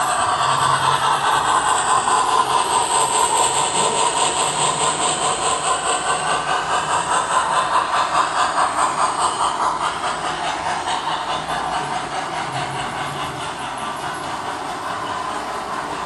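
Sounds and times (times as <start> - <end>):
steam chuffing with hiss: 0.0 - 16.0.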